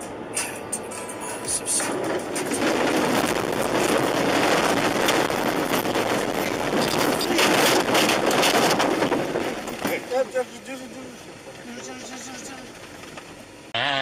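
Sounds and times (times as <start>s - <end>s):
car tyres rumbling over rough ground: 0.0s - 13.7s.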